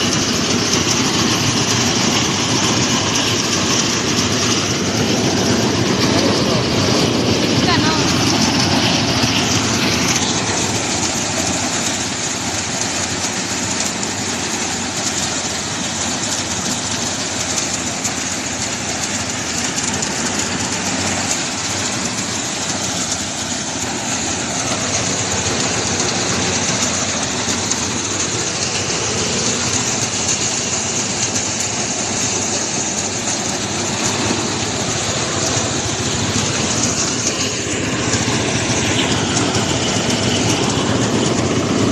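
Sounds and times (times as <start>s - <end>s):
rice thresher engine running: 0.0s - 41.9s.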